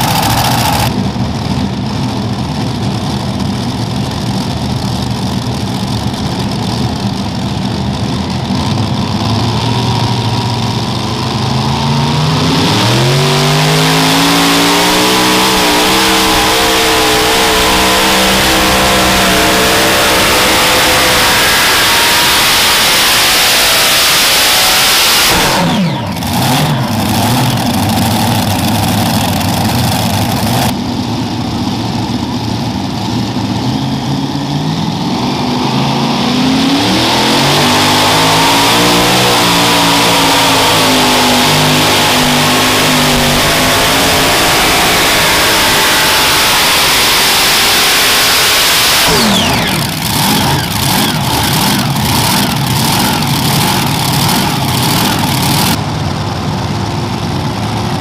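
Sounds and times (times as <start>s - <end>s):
pulling tractor engine revving: 0.0s - 30.8s, 32.9s - 58.0s.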